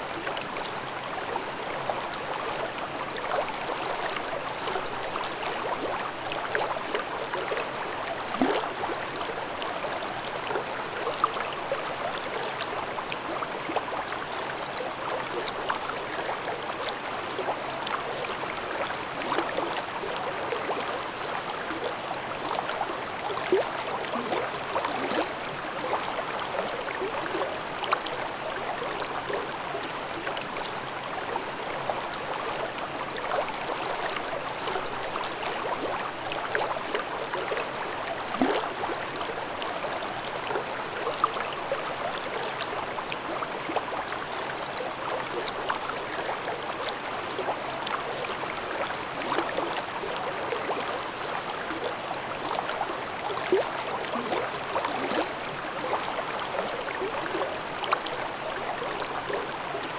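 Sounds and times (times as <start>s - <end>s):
stream babbling: 0.0s - 59.9s
water gurgle or splash: 2.4s - 12.6s, 13.4s - 59.9s.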